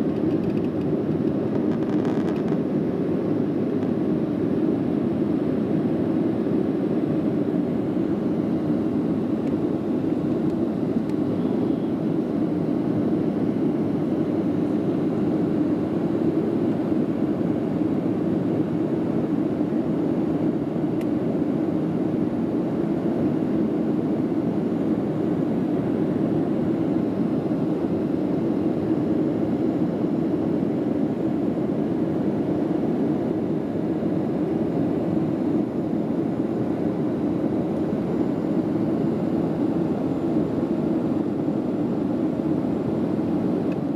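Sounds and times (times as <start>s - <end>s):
airplane cabin engine rush: 0.0s - 43.9s.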